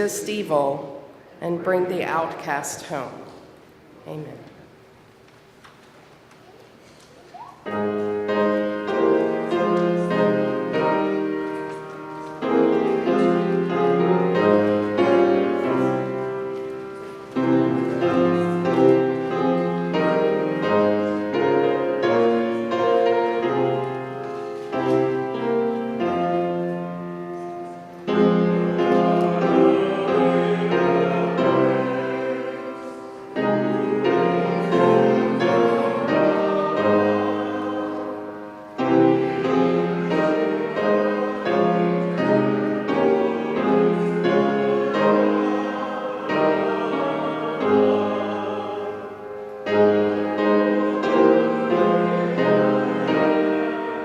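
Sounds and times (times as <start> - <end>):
piano playing slow hymn: 7.2 - 54.0.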